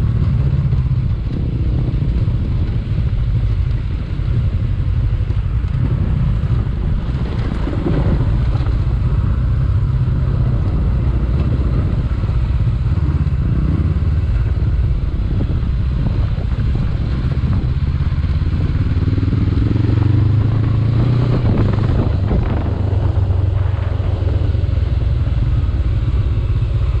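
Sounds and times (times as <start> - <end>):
motorcycle engine on dirt trail: 0.0 - 27.0.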